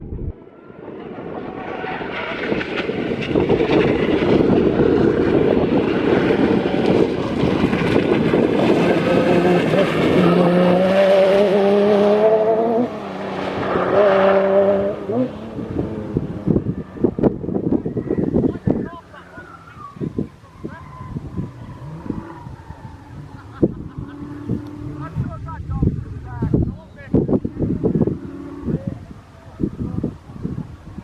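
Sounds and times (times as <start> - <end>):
race car engine revving: 1.2 - 19.9, 20.9 - 29.1.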